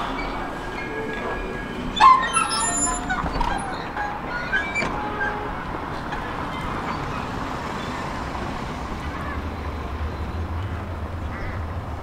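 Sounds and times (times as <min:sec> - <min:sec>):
tram rolling noise: 0:00.0 - 0:12.0.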